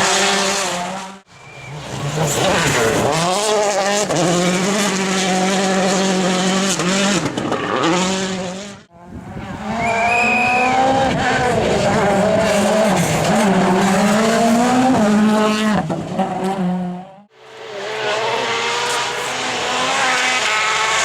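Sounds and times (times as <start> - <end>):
rally car engines at high revs: 0.0 - 21.0.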